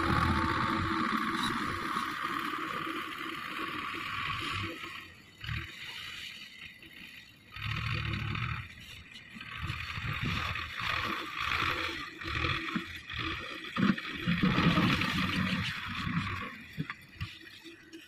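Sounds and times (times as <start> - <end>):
distant tractor engine working: 0.0 - 18.0.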